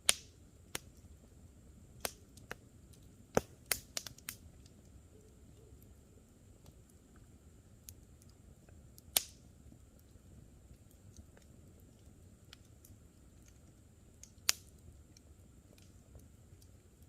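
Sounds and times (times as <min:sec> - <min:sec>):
burning wood popping: 0:00.0 - 0:01.2, 0:01.9 - 0:17.0
campfire crackling: 0:00.0 - 0:17.0.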